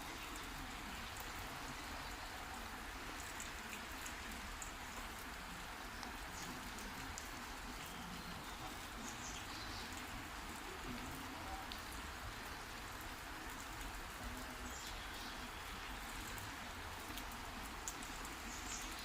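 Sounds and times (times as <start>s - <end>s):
heavy rain: 0.0s - 19.0s
raindrops ticking close by: 0.0s - 19.0s.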